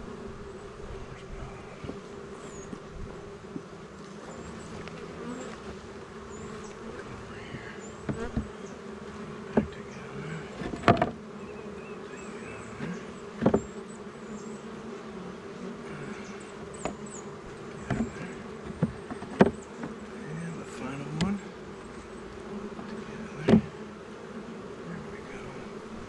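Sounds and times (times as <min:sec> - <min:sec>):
bees buzzing: 0:00.0 - 0:26.0
wooden hive frames knocking: 0:00.9 - 0:11.4, 0:12.6 - 0:13.9, 0:16.3 - 0:21.8, 0:22.4 - 0:26.0.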